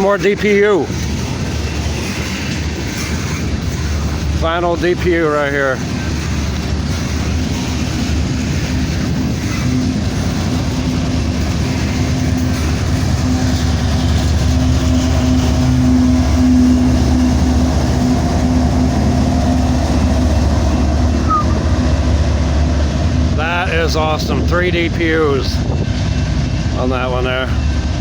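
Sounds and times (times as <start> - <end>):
diesel locomotive engine drone: 0.0 - 28.0
rumble of wheels on rail: 0.0 - 28.0.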